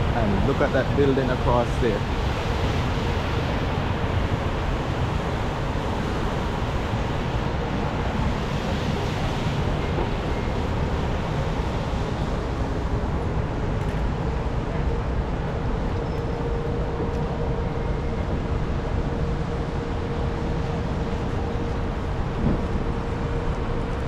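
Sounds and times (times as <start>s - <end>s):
city traffic on wet streets: 0.0s - 24.0s.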